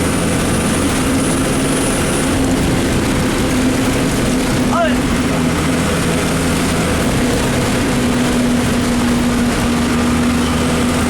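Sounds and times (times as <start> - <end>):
bus engine droning: 0.0 - 11.0
wet road noise: 0.0 - 11.0.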